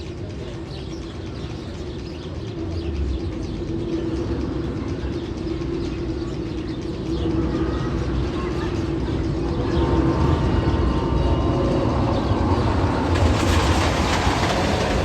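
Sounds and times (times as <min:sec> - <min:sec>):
birds chirping: 0:00.0 - 0:15.0
low mechanical rumble: 0:00.0 - 0:15.0.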